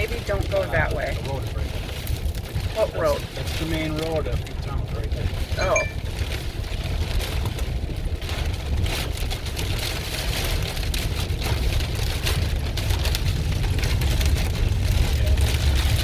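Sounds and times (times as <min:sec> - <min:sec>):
rain hitting glass: 0:00.0 - 0:16.0
storm wind buffeting truck: 0:00.0 - 0:16.0.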